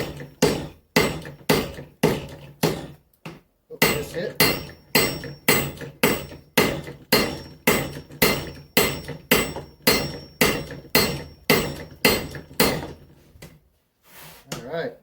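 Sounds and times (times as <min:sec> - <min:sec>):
hammer striking steel on anvil: 0:00.0 - 0:03.0, 0:03.8 - 0:13.0.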